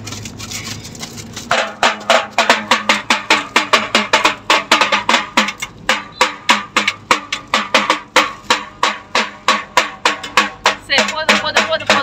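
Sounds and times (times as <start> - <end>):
drum beating a rhythm: 1.4 - 12.0.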